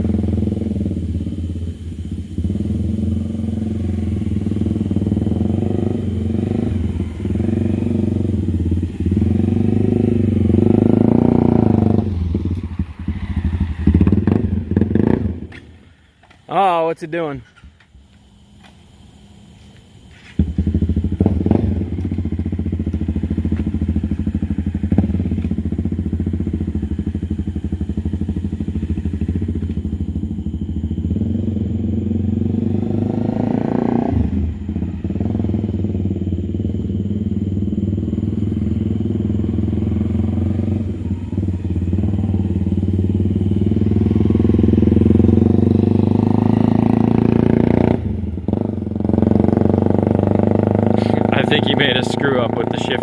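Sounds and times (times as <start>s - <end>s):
motorcycle engine accelerating: 0.0s - 16.0s, 20.3s - 53.0s.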